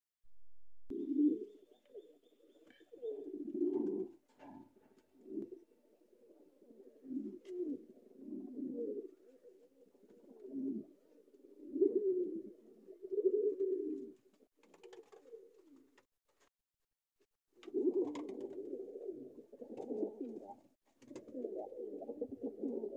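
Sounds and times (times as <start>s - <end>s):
pigeon cooing: 0.9s - 16.0s, 17.6s - 22.9s.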